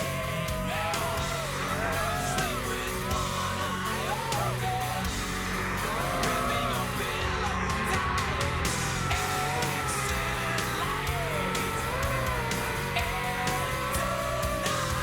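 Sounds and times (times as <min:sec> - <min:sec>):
guitar: 0:00.0 - 0:15.0
person singing: 0:00.0 - 0:15.0
steady low bass line: 0:00.0 - 0:15.0.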